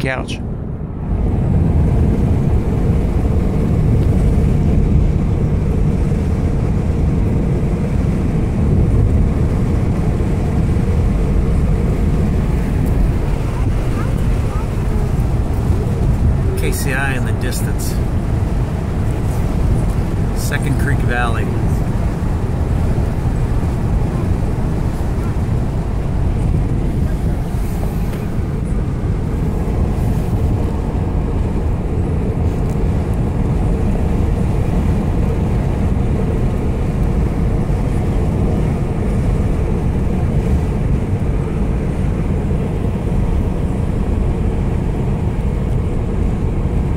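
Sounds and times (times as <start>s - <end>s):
car engine hum: 0.0s - 46.9s
tyres on concrete road: 0.0s - 46.9s.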